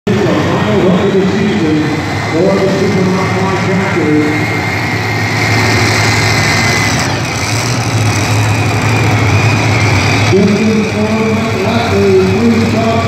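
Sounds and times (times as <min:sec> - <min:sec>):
pulling tractor engines running: 0:00.1 - 0:13.0.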